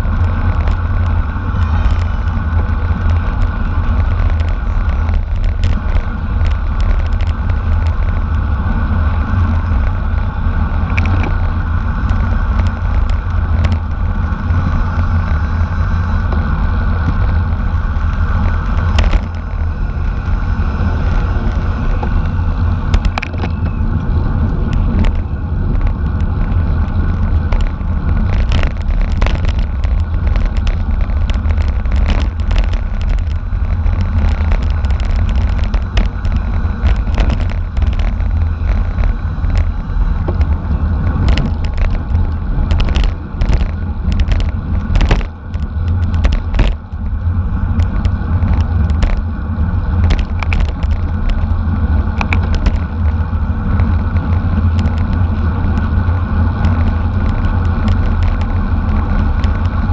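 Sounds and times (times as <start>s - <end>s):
bicycle clicks and knocks: 0.0s - 59.9s
wind buffeting microphone: 0.0s - 59.9s.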